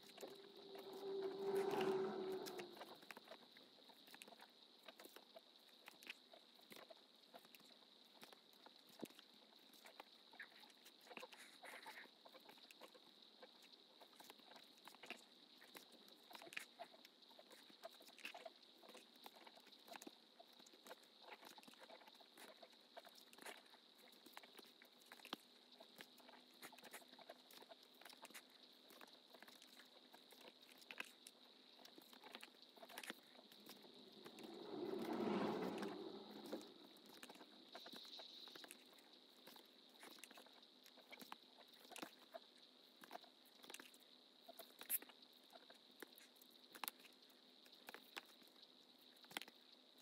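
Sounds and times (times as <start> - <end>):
faint steady high whine: 0.0 - 50.0.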